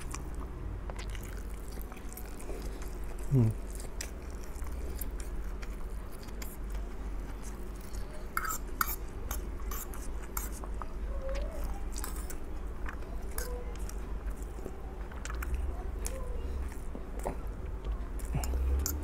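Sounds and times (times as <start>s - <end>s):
person chewing noodles: 0.0s - 19.0s.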